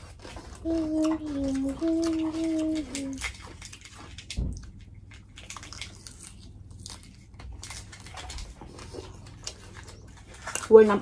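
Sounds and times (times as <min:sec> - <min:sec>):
biting and chewing meat: 0:00.0 - 0:10.6.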